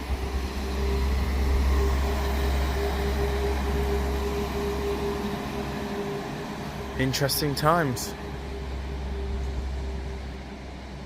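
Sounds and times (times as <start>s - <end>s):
diesel train engines running: 0.0s - 11.0s.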